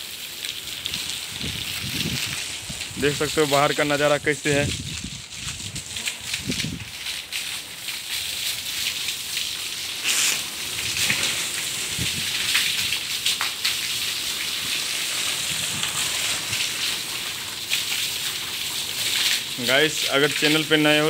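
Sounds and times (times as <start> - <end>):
water drips: 0.0 - 21.0
water pouring onto concrete: 0.0 - 21.0.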